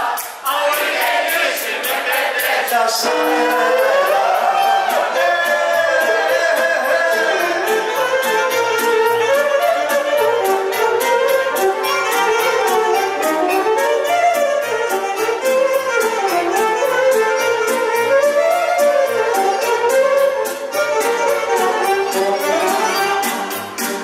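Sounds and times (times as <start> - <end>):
live band playing folk dance: 0.0 - 24.0
violin melody: 3.0 - 24.0.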